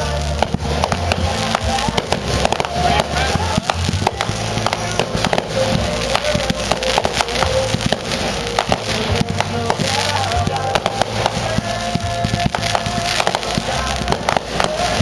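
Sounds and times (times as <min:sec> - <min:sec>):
fireworks cracking and banging: 0:00.0 - 0:15.0
music playing: 0:00.0 - 0:15.0.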